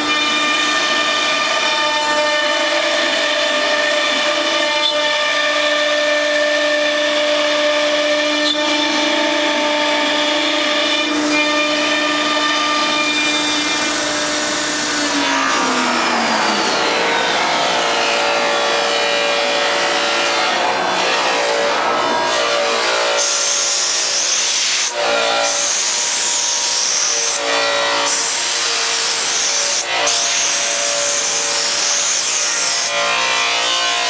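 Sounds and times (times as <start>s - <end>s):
router spindle whining: 0.0s - 34.0s.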